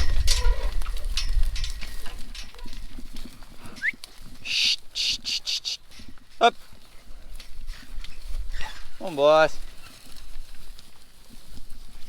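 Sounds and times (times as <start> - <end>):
cattle shuffling in a pen: 0.0 - 12.0.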